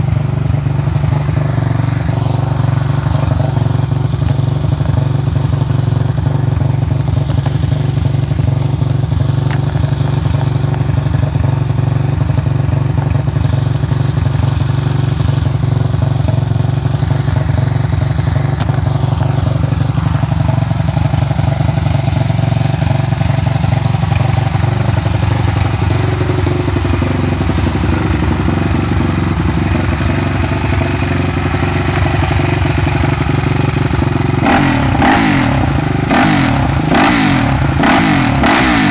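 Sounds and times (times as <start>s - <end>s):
quad engine idling: 0.0s - 38.9s.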